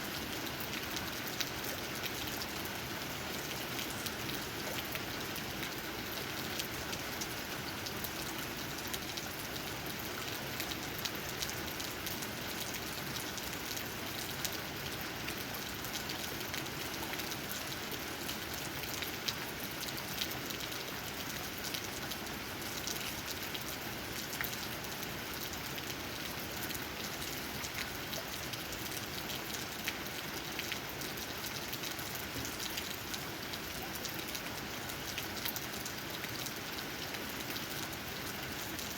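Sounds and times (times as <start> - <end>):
steady rain: 0.0 - 38.9
raindrops tapping on leaves: 0.1 - 38.9.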